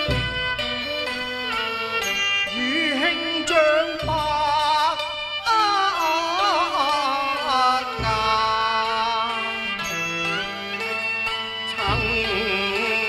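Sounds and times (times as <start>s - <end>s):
sliding ornamented instrumental melody: 0.0s - 13.0s.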